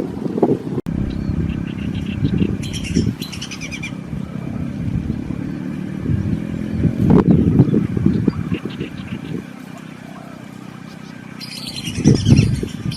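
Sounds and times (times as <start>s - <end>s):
steady low rumble: 0.0s - 12.9s
bird chirping: 0.9s - 12.9s.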